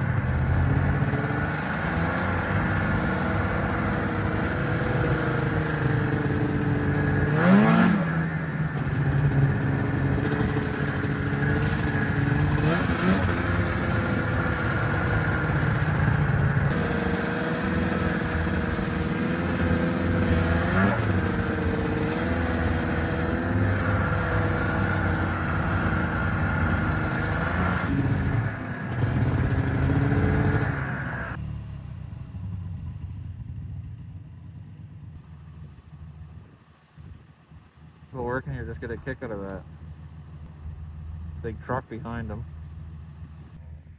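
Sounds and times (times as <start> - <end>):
snowmobile engine running: 0.0 - 31.4, 38.1 - 39.7, 40.5 - 43.9.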